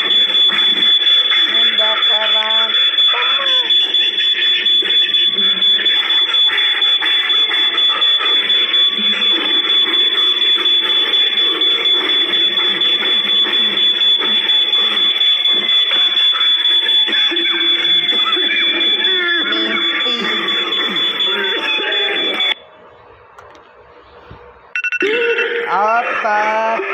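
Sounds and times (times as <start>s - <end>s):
smoke alarm high-pitched tone: 0.0s - 22.6s.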